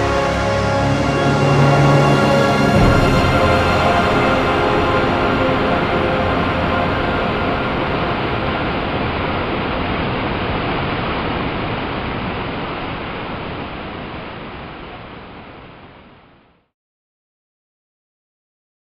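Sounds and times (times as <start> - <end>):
waterfall rushing: 0.0 - 15.4.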